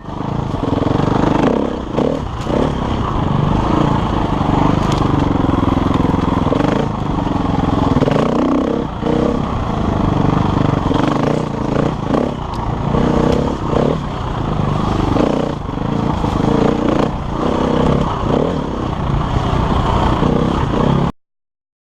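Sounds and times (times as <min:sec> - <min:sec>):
clatter: 0:00.0 - 0:21.1
motorcycle engine revving: 0:00.0 - 0:21.1.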